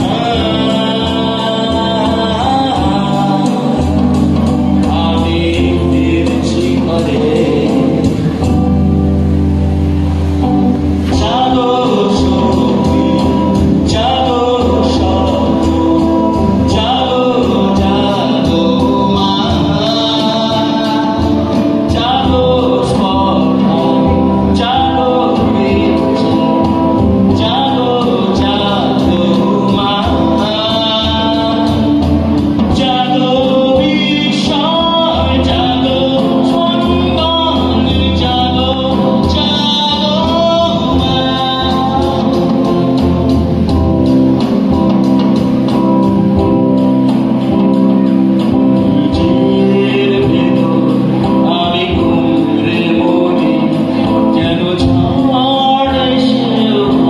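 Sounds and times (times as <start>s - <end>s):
man singing into microphone: 0.0s - 9.2s, 10.2s - 57.0s
drum kit: 0.0s - 57.0s
electric guitar: 0.0s - 57.0s.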